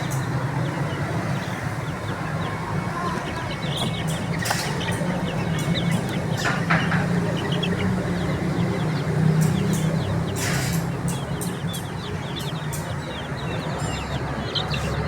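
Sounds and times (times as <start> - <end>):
baby chicks chirping: 0.0 - 15.0.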